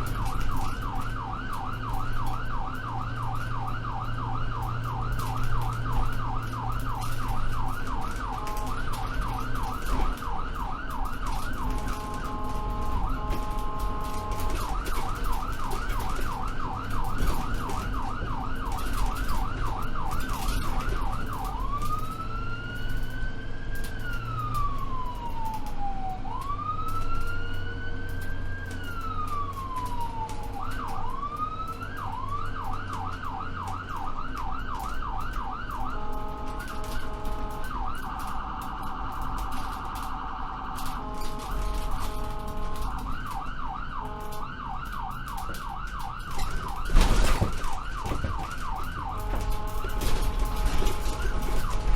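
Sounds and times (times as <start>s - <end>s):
ambulance siren: 0.0s - 51.9s
engine and road drone: 0.0s - 51.9s.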